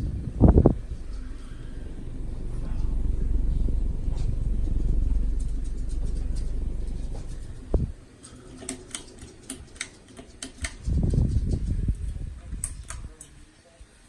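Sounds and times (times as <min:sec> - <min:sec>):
fan airflow rumbling on microphone: 0:00.0 - 0:14.0
light irregular clicks: 0:00.4 - 0:13.4.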